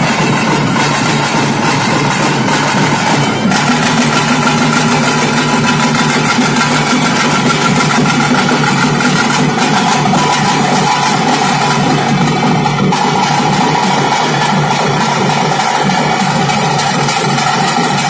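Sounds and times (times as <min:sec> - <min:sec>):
rapid drumming: 0:00.0 - 0:18.0.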